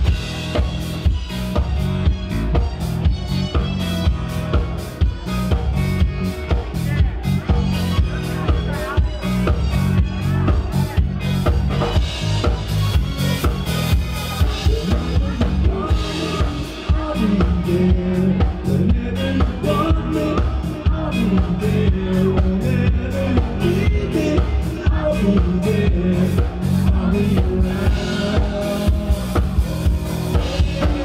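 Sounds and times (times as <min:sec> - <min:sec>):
drum kit beat: 0:00.0 - 0:31.0
electric bass guitar: 0:00.0 - 0:31.0
rock band playing: 0:00.0 - 0:31.0.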